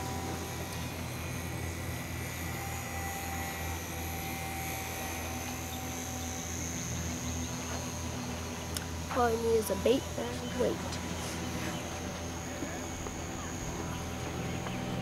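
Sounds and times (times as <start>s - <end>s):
model plane electric motor buzzing: 0.0s - 15.0s.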